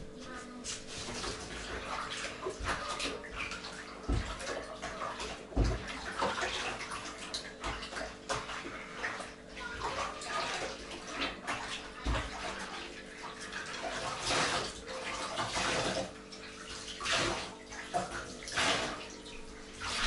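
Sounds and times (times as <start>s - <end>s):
water sloshing in metal basin: 0.0s - 20.0s.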